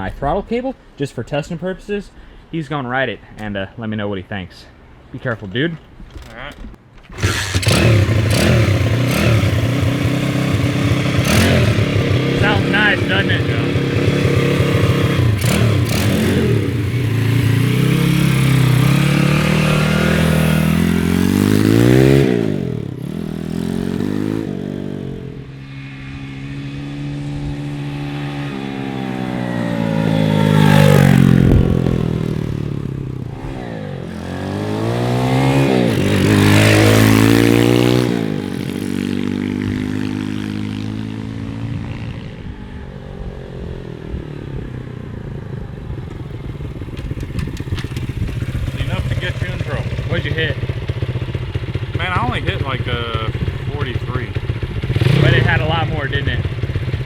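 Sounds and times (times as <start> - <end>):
mini bike engine revving: 7.1 - 42.2, 46.1 - 57.0.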